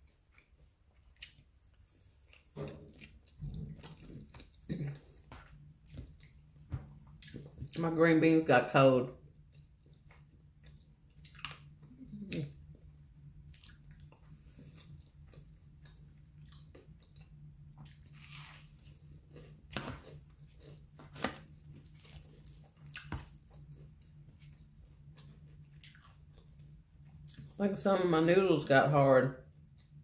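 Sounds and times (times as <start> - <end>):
person chewing: 0.0 - 7.8, 9.3 - 27.6
steady low hum: 0.0 - 30.0.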